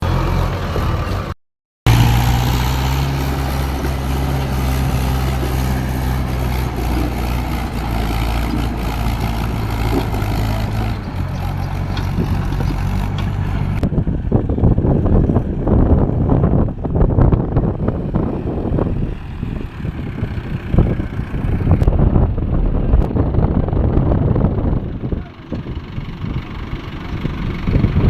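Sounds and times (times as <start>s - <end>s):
heavy diesel engine running: 1.9s - 28.0s
wind buffeting microphone: 3.1s - 28.0s.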